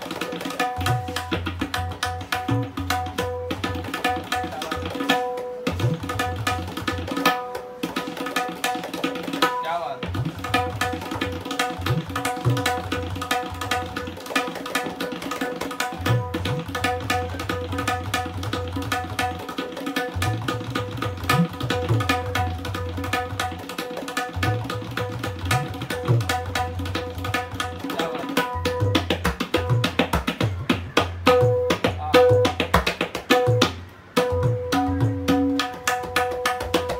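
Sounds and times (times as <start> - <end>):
tabla strokes: 0.0 - 36.9.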